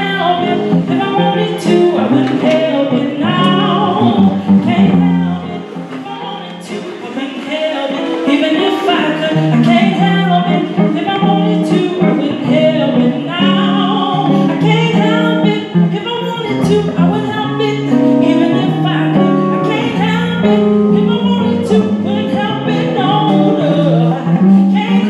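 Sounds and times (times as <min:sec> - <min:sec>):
electric guitar: 0:00.0 - 0:25.0
woman singing soul song: 0:00.0 - 0:25.0.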